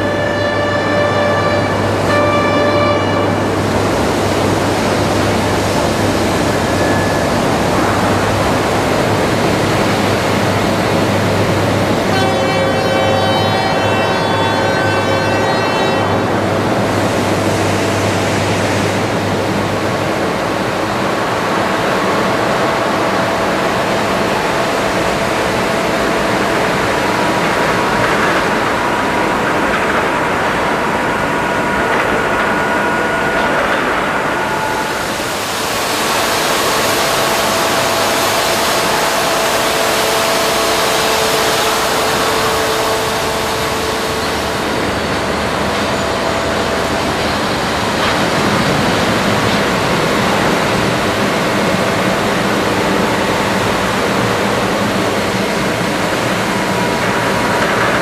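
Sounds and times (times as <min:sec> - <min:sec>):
industrial rushing noise: 0:00.0 - 0:58.0.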